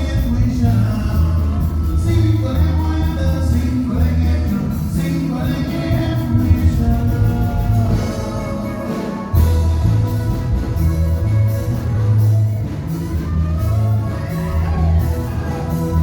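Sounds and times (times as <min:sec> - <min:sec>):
latin band playing: 0:00.0 - 0:16.0
person singing: 0:00.0 - 0:16.0.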